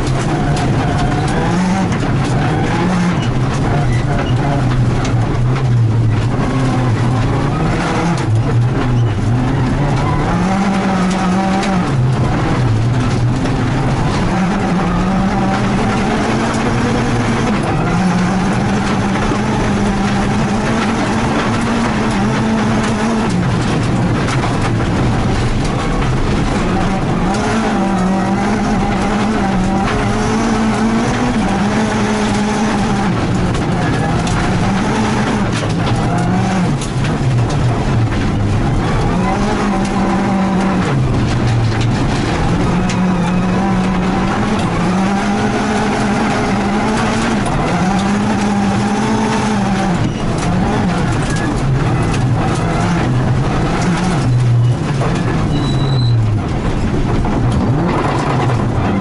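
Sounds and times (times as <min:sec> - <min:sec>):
gravel crackling under car: 0:00.0 - 0:59.0
rally car engine revving: 0:00.0 - 0:59.0.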